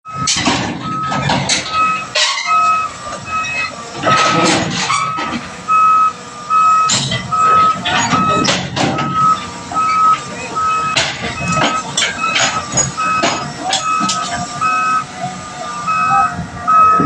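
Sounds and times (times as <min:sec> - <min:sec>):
backup alarm beeping: 0:00.1 - 0:15.1, 0:15.7 - 0:17.0
diesel engine running: 0:00.1 - 0:17.0
loud clanks and rattles: 0:00.2 - 0:05.7, 0:06.8 - 0:15.4.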